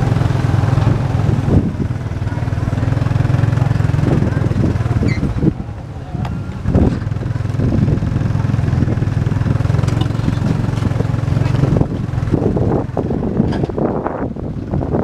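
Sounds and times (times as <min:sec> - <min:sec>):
small motorbike engine running: 0:00.0 - 0:13.9.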